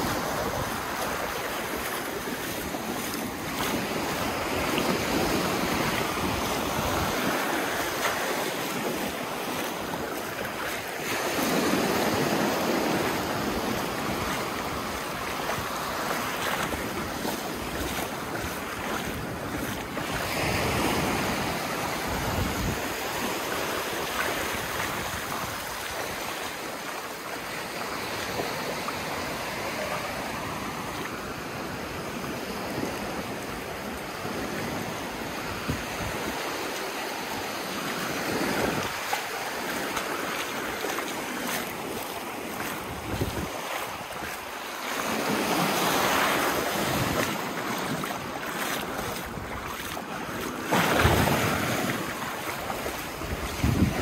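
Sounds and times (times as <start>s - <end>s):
small waves breaking on sand: 0.0s - 54.0s.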